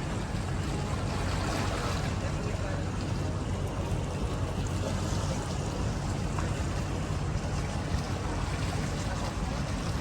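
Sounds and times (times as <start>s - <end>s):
boat engine rumble: 0.0s - 10.0s
water rushing: 0.0s - 10.0s
wind: 0.0s - 10.0s.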